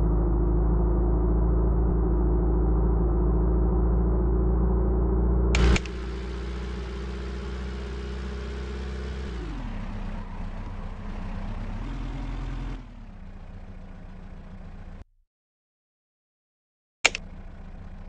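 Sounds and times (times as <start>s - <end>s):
car engine running: 0.0s - 15.0s, 17.1s - 18.0s.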